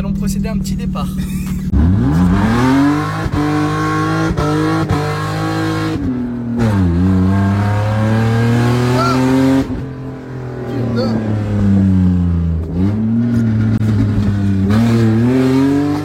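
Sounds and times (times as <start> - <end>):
car engine accelerating hard: 1.4 - 16.0.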